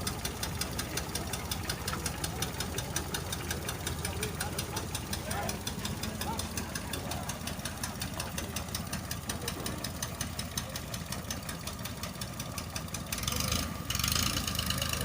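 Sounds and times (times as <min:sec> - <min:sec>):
boat engine knocking: 0:00.0 - 0:15.0.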